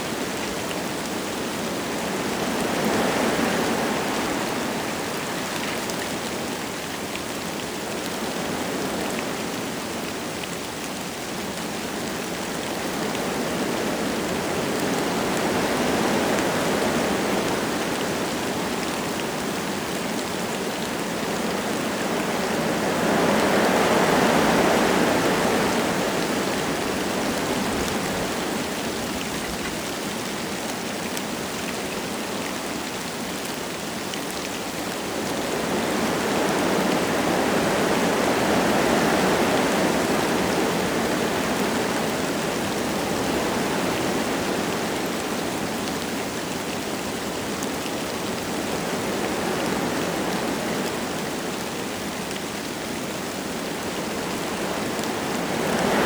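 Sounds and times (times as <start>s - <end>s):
light rain falling: 0.0s - 56.0s
wind gusting through trees: 0.0s - 56.0s.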